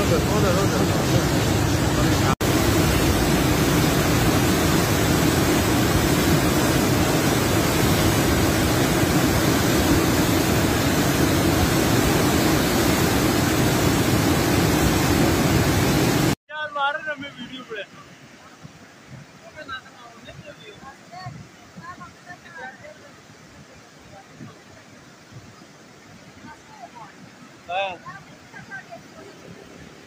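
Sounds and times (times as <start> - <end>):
river rushing in flood: 0.0 - 30.0.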